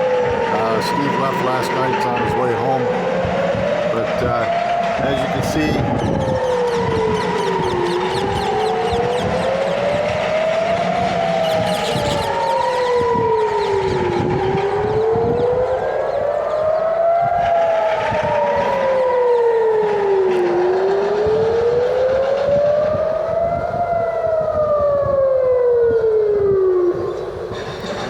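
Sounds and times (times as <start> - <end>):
air-raid sirens wailing: 0.0 - 28.0.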